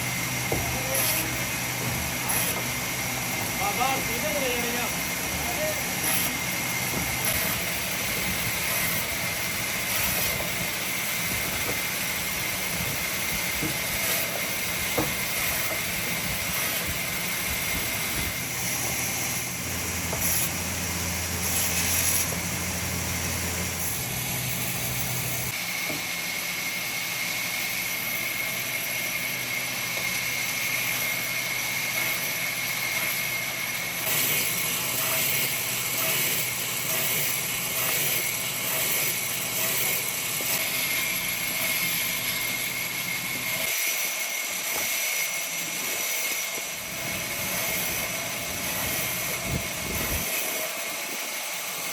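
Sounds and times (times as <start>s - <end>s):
woodworking machine motor whine: 0.0s - 51.9s.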